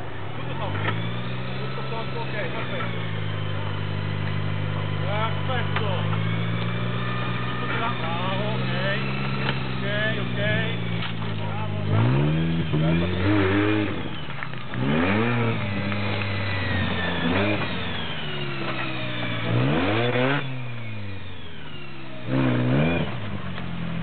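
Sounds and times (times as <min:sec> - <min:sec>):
off-road engine revving hard: 0:00.0 - 0:24.0.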